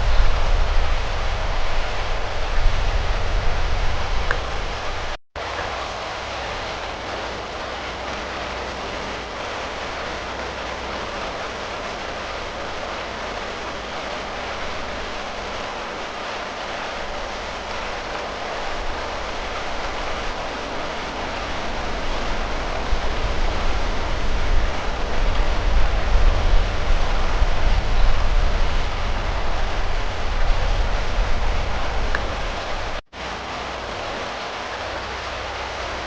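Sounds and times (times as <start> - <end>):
water rushing and splashing: 0.0 - 36.0.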